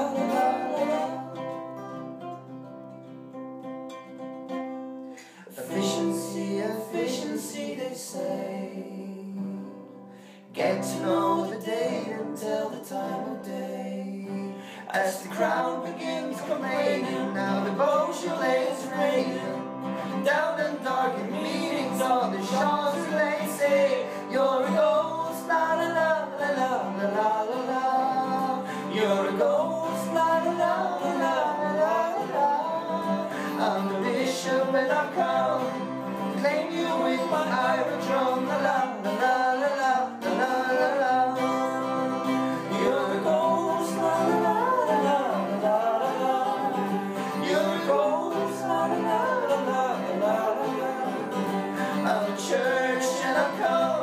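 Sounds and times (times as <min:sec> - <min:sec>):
men singing: 0:00.0 - 0:01.7, 0:05.2 - 0:09.8, 0:10.4 - 0:54.0
acoustic guitars strummed: 0:00.0 - 0:54.0.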